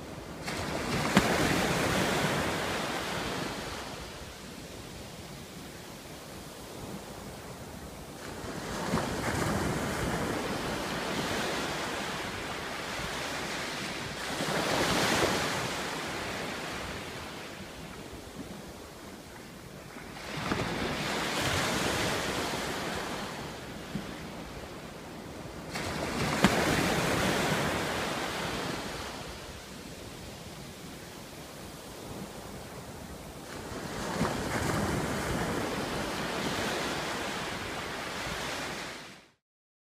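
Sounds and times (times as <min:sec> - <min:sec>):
sea waves washing ashore: 0:00.0 - 0:39.4.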